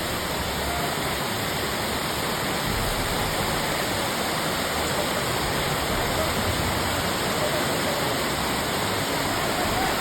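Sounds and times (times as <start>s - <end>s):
waterfall rushing water: 0.0s - 10.0s.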